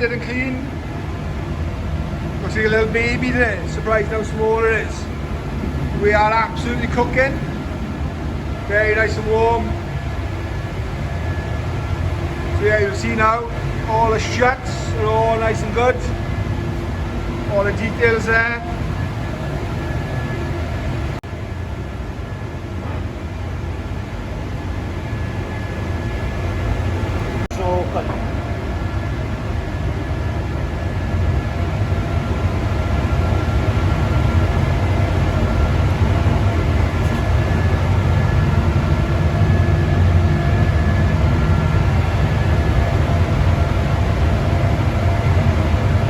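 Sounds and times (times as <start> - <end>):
faint steady whine: 0.0 - 46.0
spray booth fans rushing: 0.0 - 46.0.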